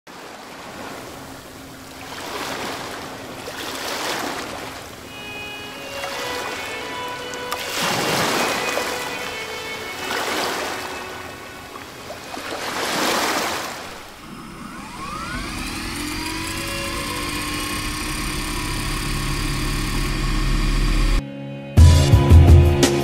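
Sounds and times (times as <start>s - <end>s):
low drone with gliding tones: 0.7s - 12.9s, 13.8s - 21.5s.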